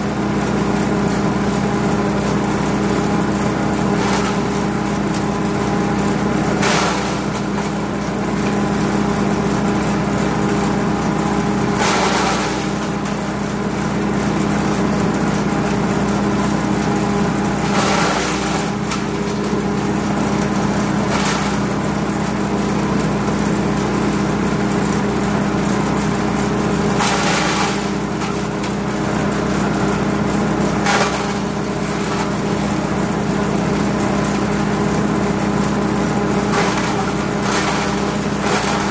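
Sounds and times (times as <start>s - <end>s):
petrol engine running: 0.0s - 38.9s.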